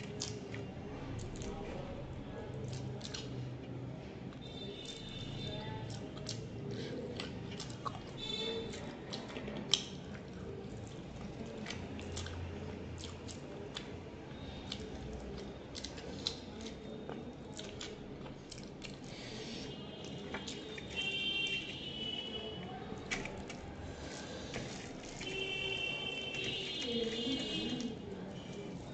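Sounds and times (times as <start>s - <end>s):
close chewing and lip-smacking: 0.0s - 28.9s.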